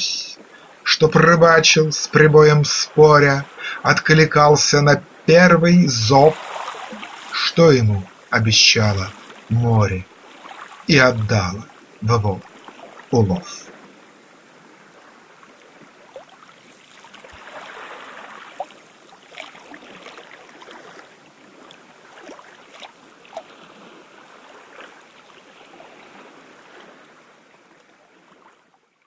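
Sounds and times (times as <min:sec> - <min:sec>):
small waves washing onto beach: 0:00.0 - 0:29.0.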